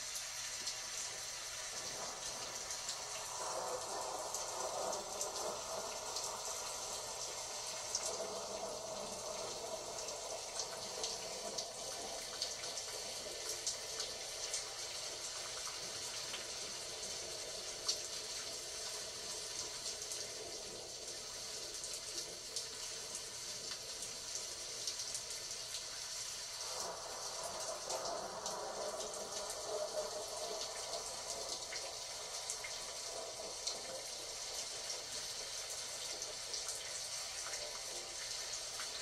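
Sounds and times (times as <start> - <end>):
rain drops ticking: 0.0 - 39.0
rain hiss: 0.0 - 39.0.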